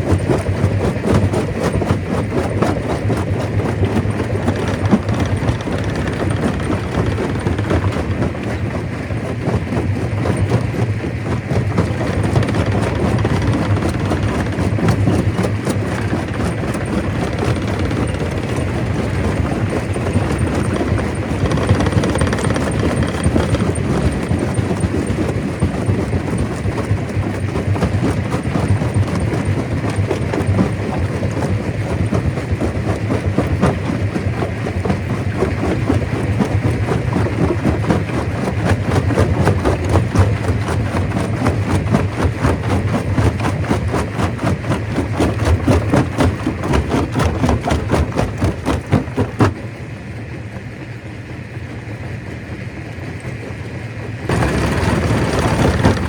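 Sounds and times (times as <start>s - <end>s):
rock crushing rattle: 0.0s - 49.7s, 54.2s - 56.0s
low machine hum: 0.0s - 56.0s.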